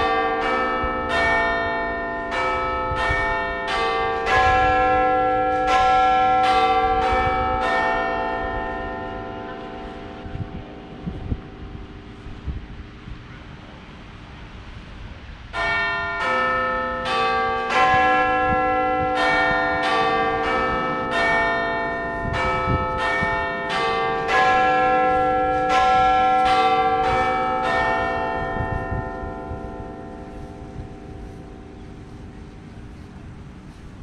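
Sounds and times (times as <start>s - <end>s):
bells ringing: 0.0s - 12.2s, 15.5s - 32.9s.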